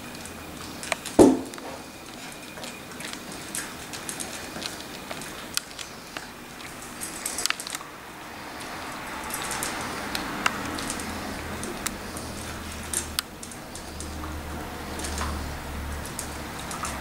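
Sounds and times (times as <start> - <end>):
puppies crunching kibble: 0.0 - 17.0.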